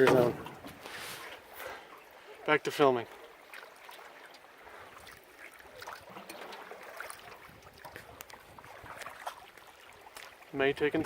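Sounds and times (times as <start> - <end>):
small splashes and drips: 0.0 - 11.0
water lapping around canoe: 0.0 - 11.0.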